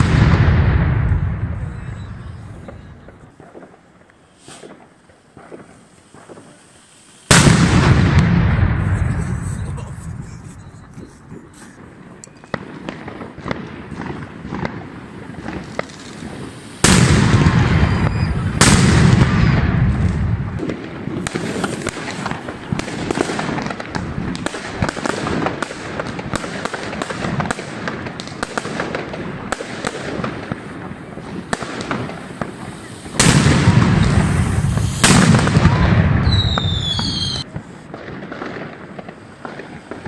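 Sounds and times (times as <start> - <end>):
small firework pops: 0.0 - 9.3, 10.8 - 40.0
fireworks crackling and popping: 0.0 - 40.0
loud firework blast: 0.0 - 40.0.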